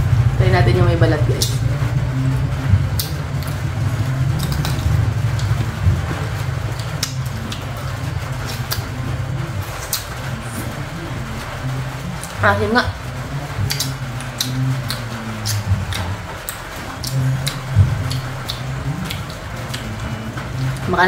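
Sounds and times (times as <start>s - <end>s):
low engine-like rumble: 0.0s - 21.0s.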